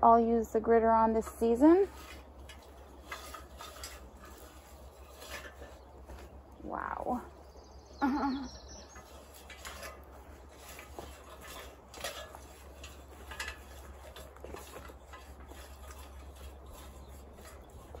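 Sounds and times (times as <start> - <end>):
soft scraping of soil: 0.0 - 6.6, 8.7 - 18.0.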